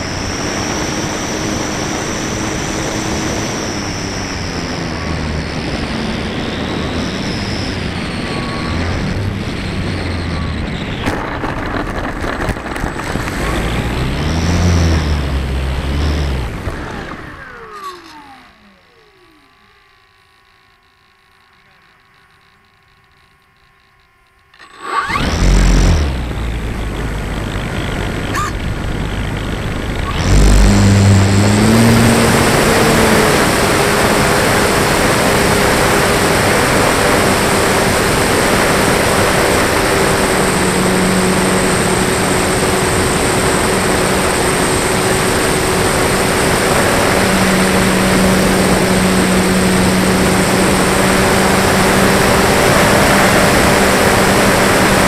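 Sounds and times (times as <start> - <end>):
electric propeller motor whine: 0.0 - 55.0.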